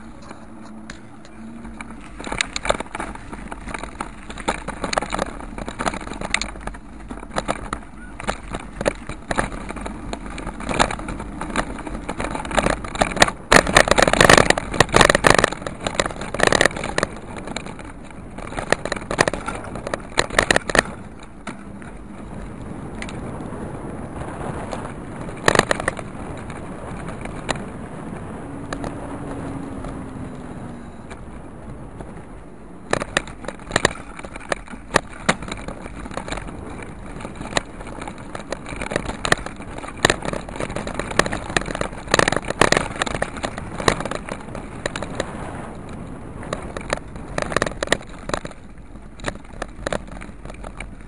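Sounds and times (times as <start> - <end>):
camera rattling and knocking: 0.0 - 51.0
wind and rolling noise: 0.0 - 51.0.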